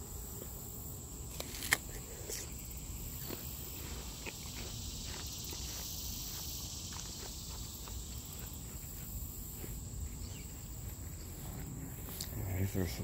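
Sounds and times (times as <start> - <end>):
insects buzzing: 0.0 - 13.0
footsteps on dirt and grass: 1.3 - 13.0.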